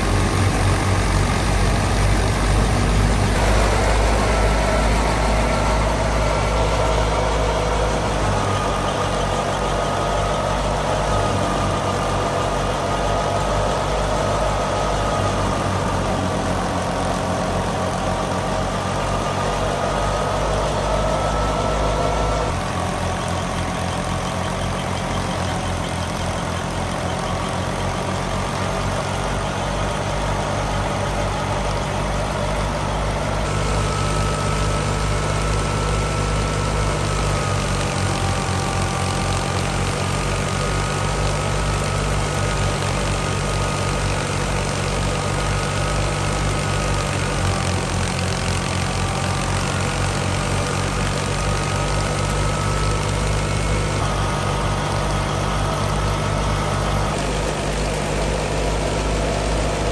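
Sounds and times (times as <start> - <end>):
mechanical whine: 0.0 - 59.9
tractor diesel engine throbbing: 0.0 - 59.9.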